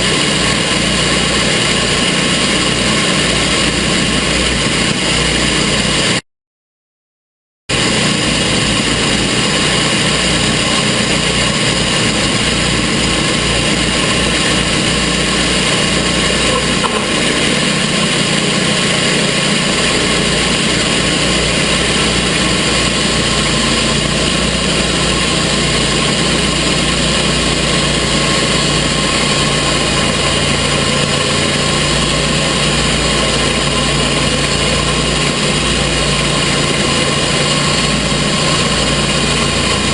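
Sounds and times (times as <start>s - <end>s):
sawmill gas engine running: 0.0s - 6.2s, 7.7s - 39.9s.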